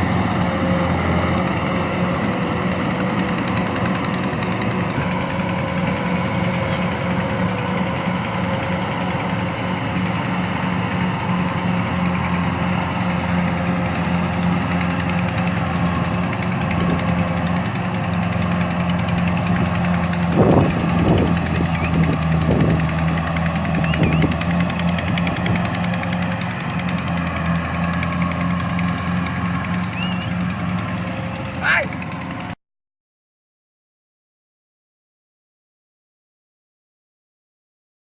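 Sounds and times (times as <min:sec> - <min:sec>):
engine running steadily: 0:00.0 - 0:32.6.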